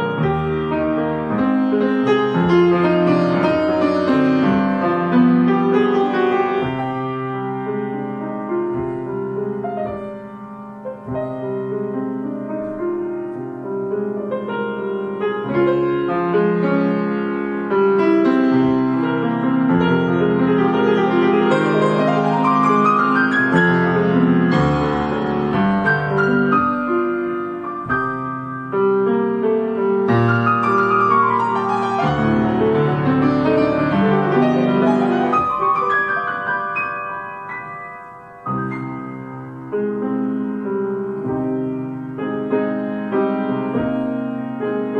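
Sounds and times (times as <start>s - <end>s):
grand piano playing: 0.0s - 44.9s.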